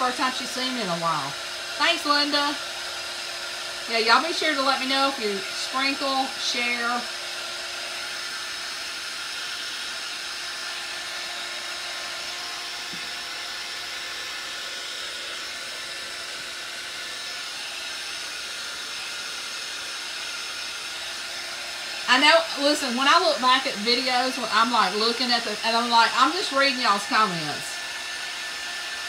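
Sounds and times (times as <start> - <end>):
heat gun blowing hot air: 0.0 - 29.0.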